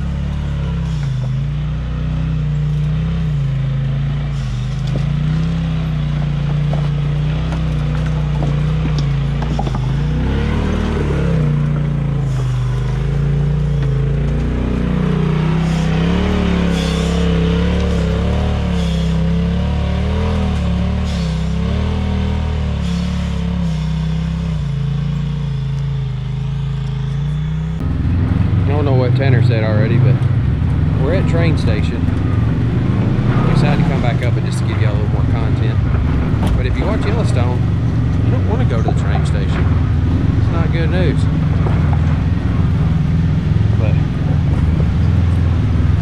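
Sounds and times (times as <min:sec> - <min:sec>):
utv engine revving: 0:00.0 - 0:46.0
knocks and scrapes: 0:02.6 - 0:29.0, 0:31.0 - 0:46.0.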